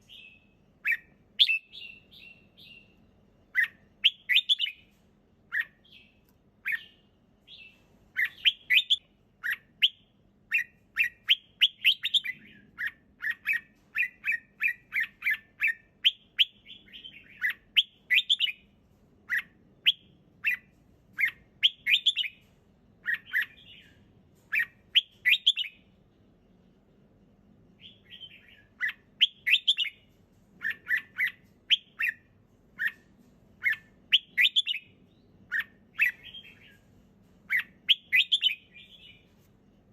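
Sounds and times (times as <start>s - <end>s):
bird singing whistled notes: 0.0s - 4.8s, 5.5s - 18.6s, 19.3s - 22.4s, 23.0s - 25.8s, 27.8s - 30.0s, 30.6s - 32.2s, 33.6s - 36.9s, 37.5s - 39.3s.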